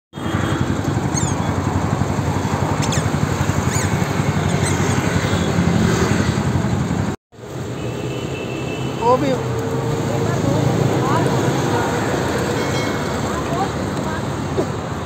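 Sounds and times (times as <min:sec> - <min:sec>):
engine rumble with flutter: 0:00.2 - 0:07.6, 0:09.1 - 0:15.0.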